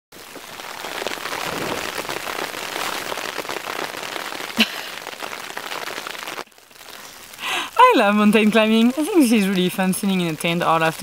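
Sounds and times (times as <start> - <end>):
rain on tent fabric: 0.1 - 11.0.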